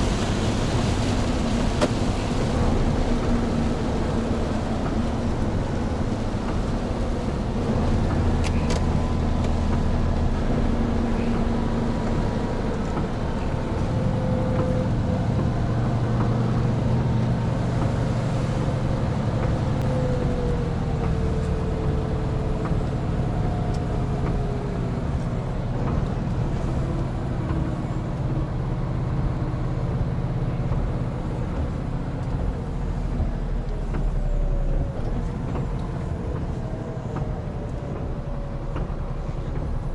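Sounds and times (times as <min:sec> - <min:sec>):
truck diesel engine running: 0:00.0 - 0:39.9
tyre noise on wet road: 0:00.0 - 0:39.9.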